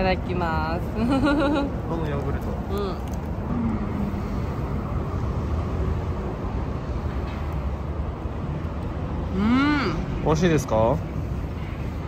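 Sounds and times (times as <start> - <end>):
highway traffic noise: 0.0 - 12.0.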